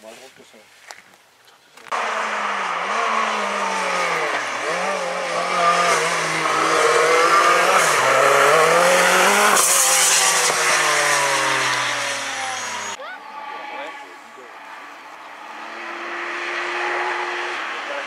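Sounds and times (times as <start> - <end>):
rally car engine revving: 1.9 - 18.0.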